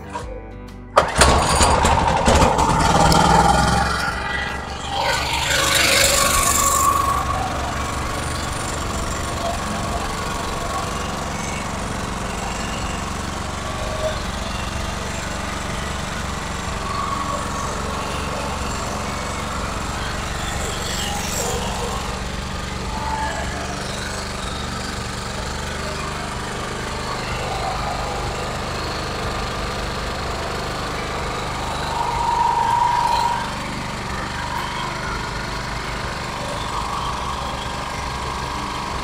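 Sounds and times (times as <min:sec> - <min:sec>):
generator engine running: 0:00.0 - 0:39.0.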